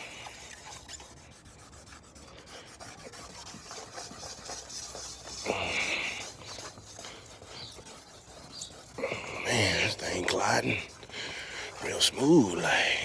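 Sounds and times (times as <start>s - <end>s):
pad scrubbing plastic lens: 0.0s - 13.0s.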